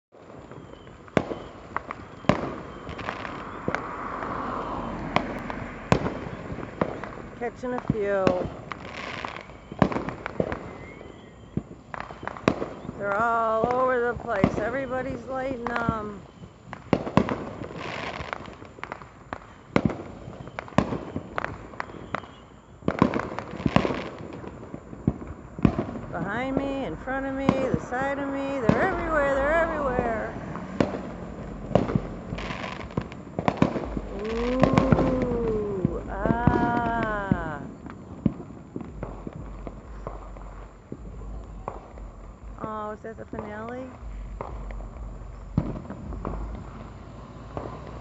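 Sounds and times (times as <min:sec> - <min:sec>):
fireworks loud bangs: 0:00.1 - 0:48.0
faint firework pops: 0:00.2 - 0:48.0.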